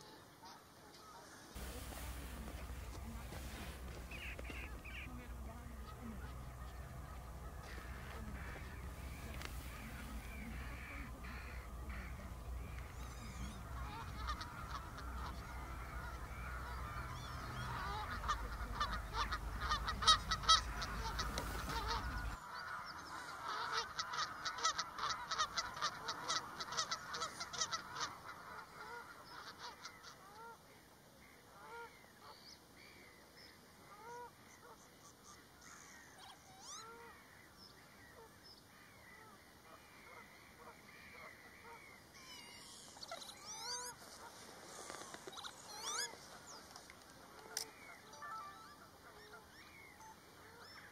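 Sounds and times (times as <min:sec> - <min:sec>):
waterbirds calling: 0:00.0 - 0:50.9.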